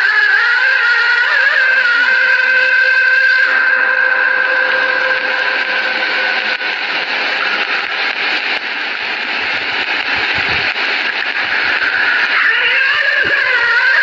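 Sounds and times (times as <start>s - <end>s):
recording hiss and crackle: 0.0s - 14.0s.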